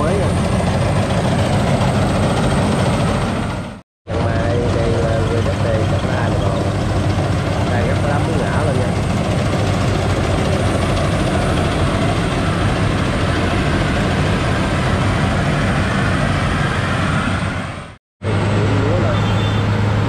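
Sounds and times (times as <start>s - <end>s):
combine harvester running: 0.0s - 20.0s.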